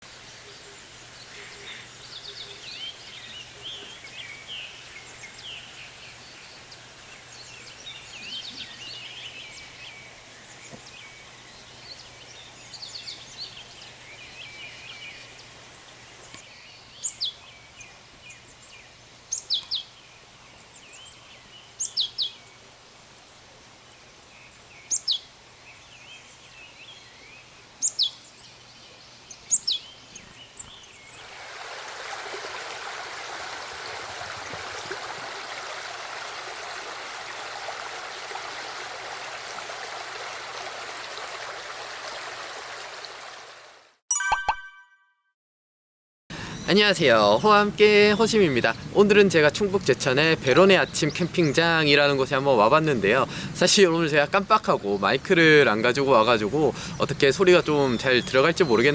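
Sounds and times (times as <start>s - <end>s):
wild birds chirping: 0.0s - 42.2s, 46.3s - 58.9s.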